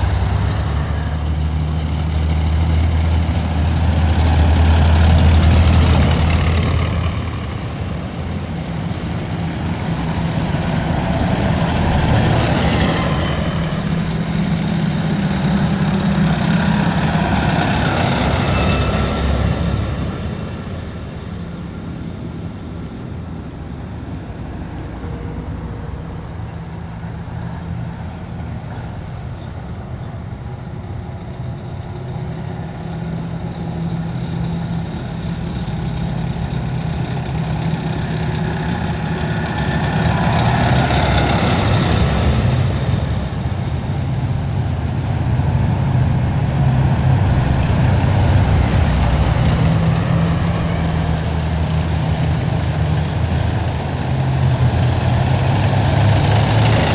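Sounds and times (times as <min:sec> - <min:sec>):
heavy vehicles driving past: 0:00.0 - 0:56.9.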